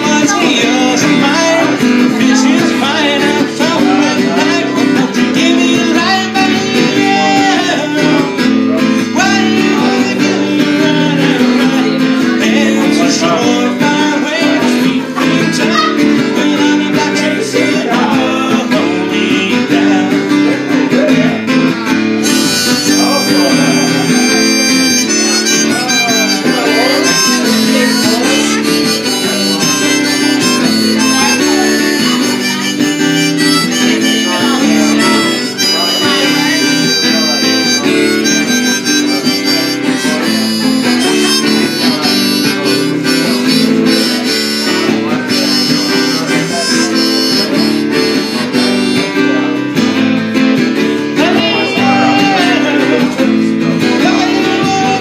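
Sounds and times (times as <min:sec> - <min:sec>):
harmonica solo: 0:00.0 - 0:16.4, 0:21.8 - 0:49.8
strummed acoustic guitar: 0:00.0 - 0:55.0.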